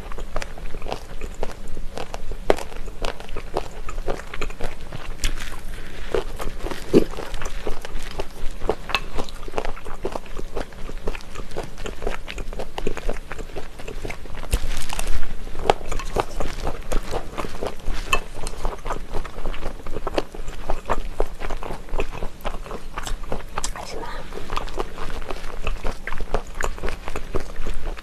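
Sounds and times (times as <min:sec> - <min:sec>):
crunching while chewing: 0:00.0 - 0:28.0
wet mouth sounds: 0:00.0 - 0:28.0.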